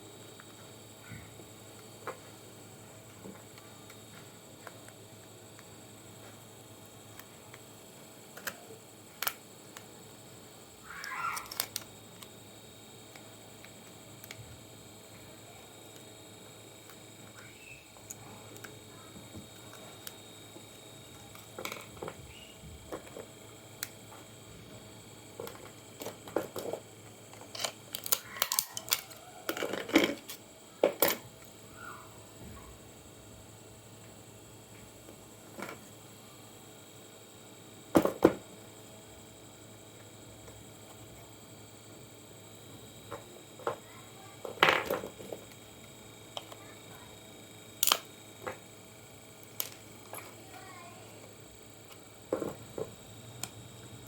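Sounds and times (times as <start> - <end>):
faint electrical whine: 0.0 - 54.0.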